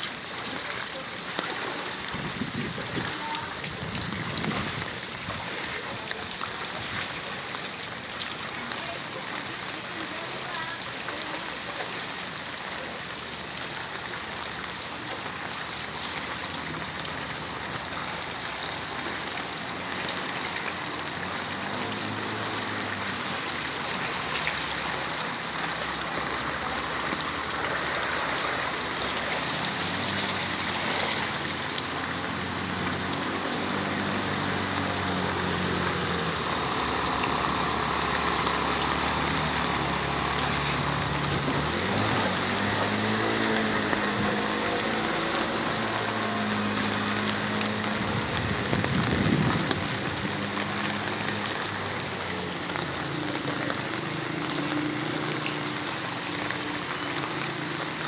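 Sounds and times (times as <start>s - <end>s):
floodwater rushing: 0.0s - 58.0s
motorcycle engine through water: 0.0s - 58.0s
steady rain: 0.0s - 58.0s.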